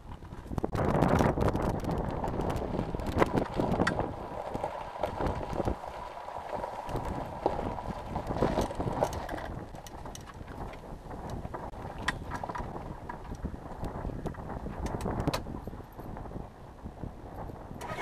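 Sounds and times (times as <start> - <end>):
aircraft taxiing rumble: 0.0 - 18.0
gravel crackling under tyres: 0.0 - 18.0.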